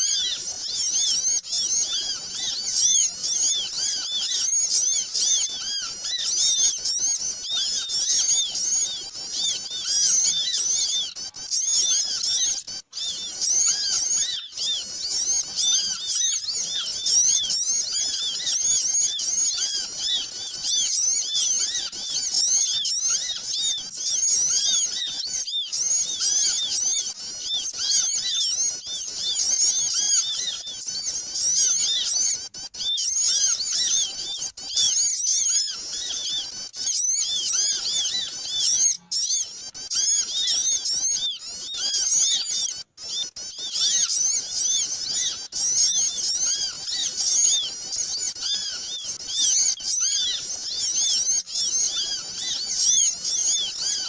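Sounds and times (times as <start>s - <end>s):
chorus of small birds chirping: 0.0s - 54.0s.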